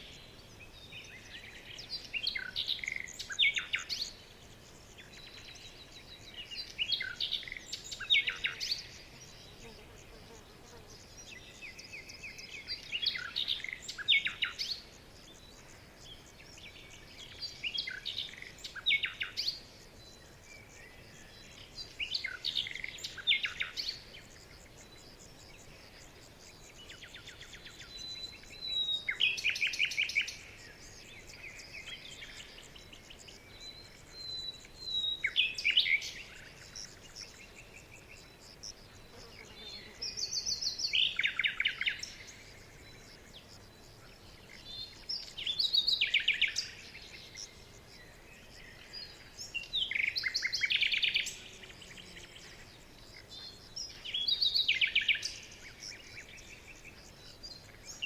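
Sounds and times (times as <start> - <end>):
faint steady hiss: 0.0 - 58.0
songbird chirping: 0.0 - 58.0.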